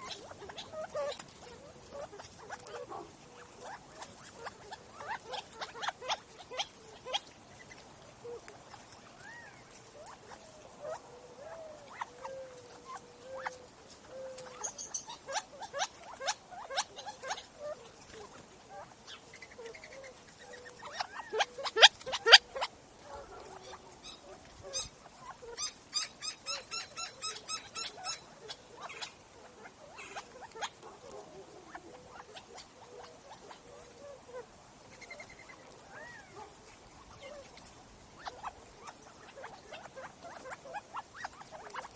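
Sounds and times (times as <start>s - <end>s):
birds pecking and scratching: 0.0s - 41.9s
soft low bird calls: 0.0s - 41.9s.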